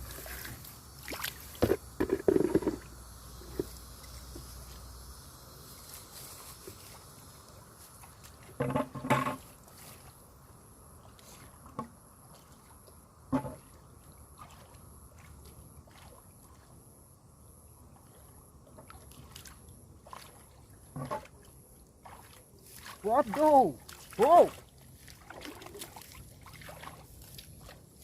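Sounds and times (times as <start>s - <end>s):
water sloshing in a river: 0.0s - 4.8s, 5.5s - 28.0s.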